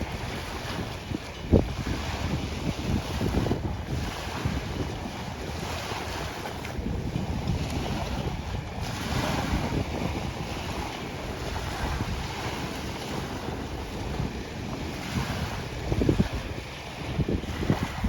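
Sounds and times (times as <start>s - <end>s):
waves washing: 0.0s - 18.0s
wind buffeting microphone: 0.0s - 18.0s.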